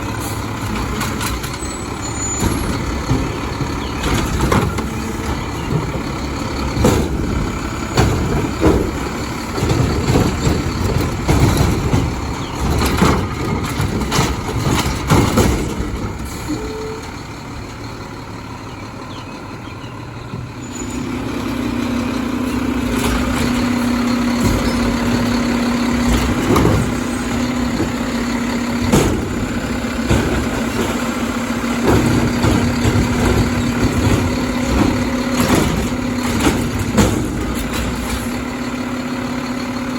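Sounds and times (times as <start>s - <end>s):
garbage truck rumble: 0.0s - 39.9s
clanks and knocks: 0.2s - 17.2s, 22.7s - 39.7s.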